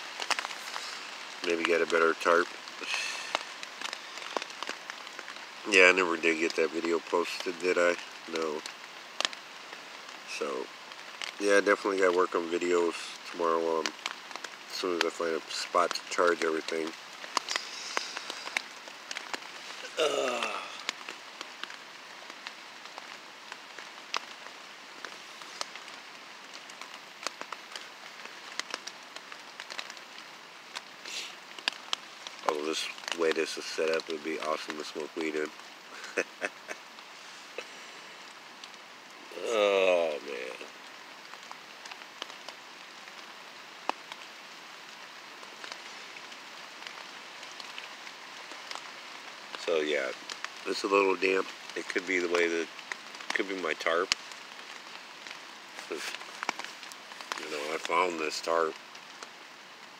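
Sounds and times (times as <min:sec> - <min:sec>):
rain on a tarp: 0:00.0 - 0:59.9
raindrops tapping tarp: 0:00.0 - 0:59.9.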